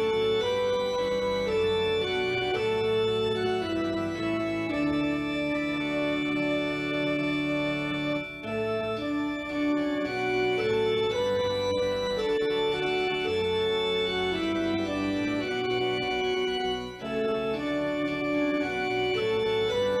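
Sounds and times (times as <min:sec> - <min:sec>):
organ playing slow melody: 0:00.0 - 0:20.0.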